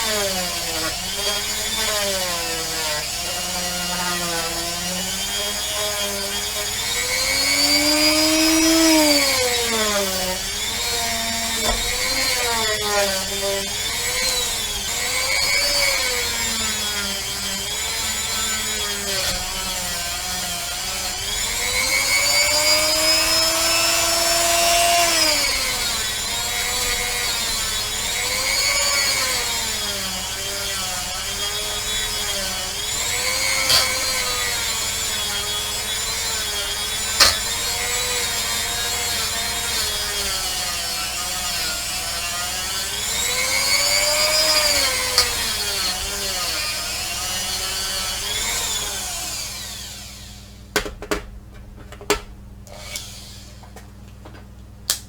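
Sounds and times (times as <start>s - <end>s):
rotary tool whining: 0.0s - 50.6s, 52.7s - 53.8s.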